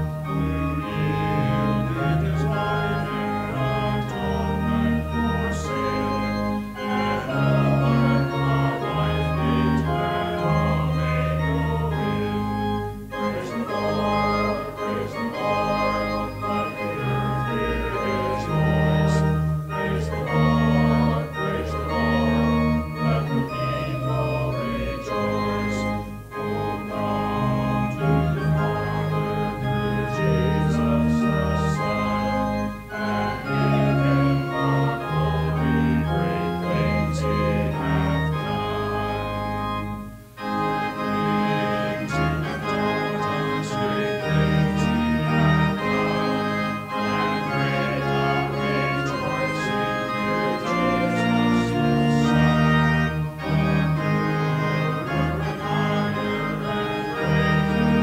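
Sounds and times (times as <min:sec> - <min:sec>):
organ playing held chords: 0:00.0 - 0:58.0.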